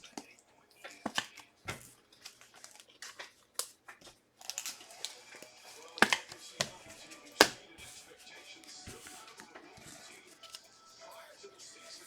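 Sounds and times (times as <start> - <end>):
foil wrappers crinkling and tearing: 0.0 - 10.7
cards rustling: 0.0 - 11.2.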